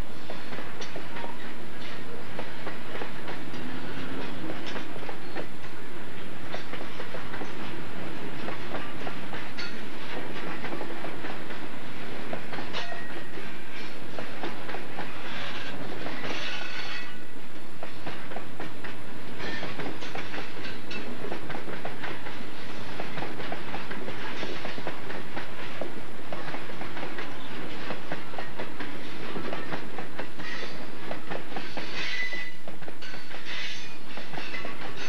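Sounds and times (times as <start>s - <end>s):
freight train rolling past: 0.0s - 35.0s.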